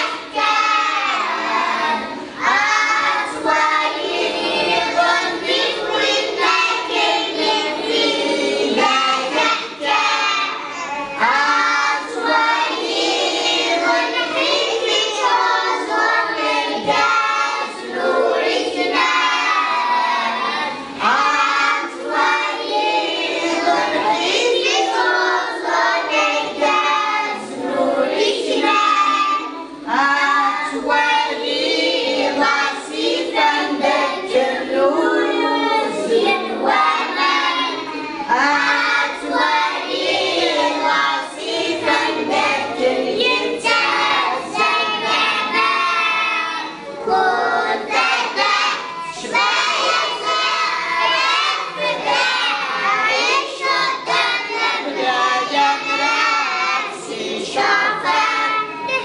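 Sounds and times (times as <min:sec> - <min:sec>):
children singing in chorus: 0:00.0 - 0:59.0.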